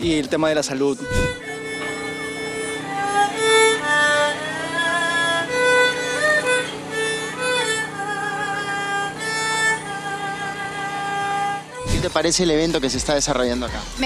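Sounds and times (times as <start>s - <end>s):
bowed string instrument melody: 0.0s - 14.0s
steady low drone: 0.0s - 14.0s.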